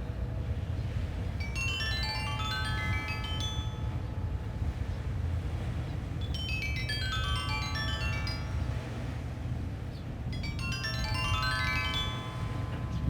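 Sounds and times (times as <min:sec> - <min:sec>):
low rumble of wind: 0:00.0 - 0:13.0.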